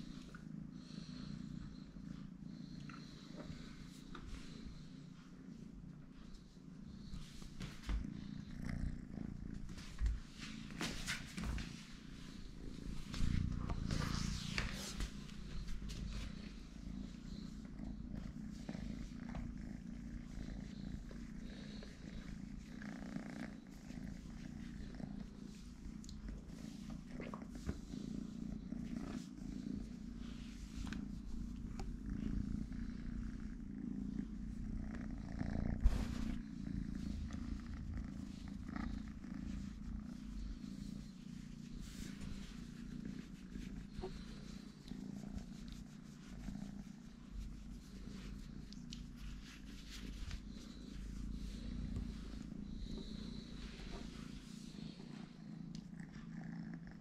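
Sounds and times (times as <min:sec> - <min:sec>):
kitten purring: 0:00.0 - 0:57.0.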